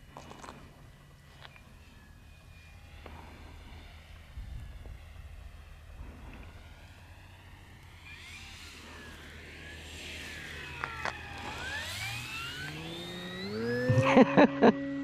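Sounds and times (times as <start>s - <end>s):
electric motor and propeller whining: 0.0s - 15.0s.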